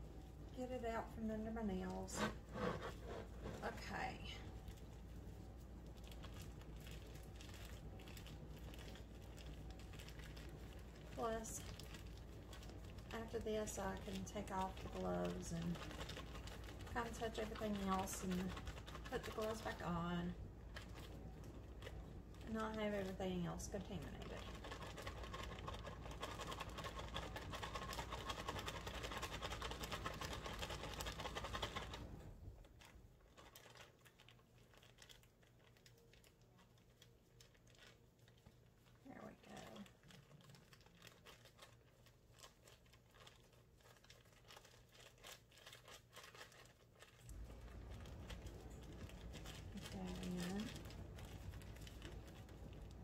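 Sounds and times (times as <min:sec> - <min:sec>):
plastic wrapper crinkling: 0:02.1 - 0:53.0.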